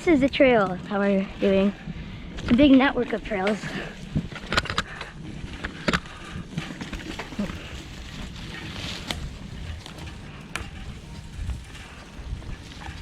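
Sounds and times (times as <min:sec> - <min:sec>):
bike tyres rumbling on dirt: 0:00.0 - 0:13.0
wind on microphone: 0:00.0 - 0:13.0
bike clicks and knocks: 0:02.3 - 0:13.0.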